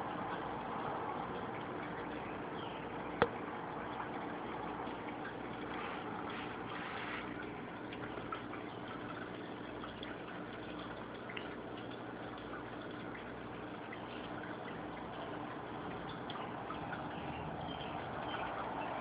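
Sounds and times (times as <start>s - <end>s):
filter motor hum: 0.0s - 19.0s
trickling aquarium water: 0.0s - 19.0s.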